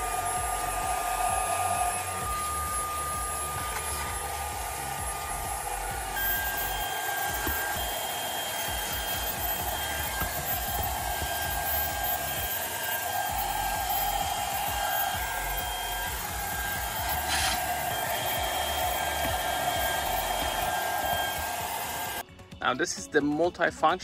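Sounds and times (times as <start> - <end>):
handheld vacuum whining: 0.0 - 22.2.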